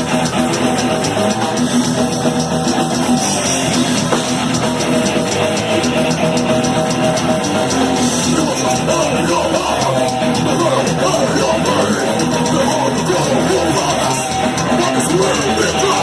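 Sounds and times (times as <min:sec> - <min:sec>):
thrash metal band playing: 0:00.0 - 0:16.0.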